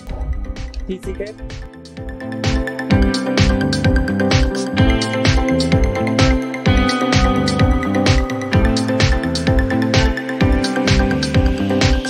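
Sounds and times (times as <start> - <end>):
electronic music: 0.0 - 12.0
steady drum beat: 0.0 - 12.0.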